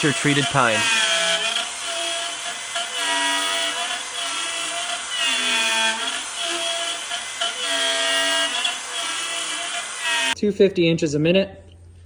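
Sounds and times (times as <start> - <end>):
router spindle whine cutting wood: 0.0 - 10.4.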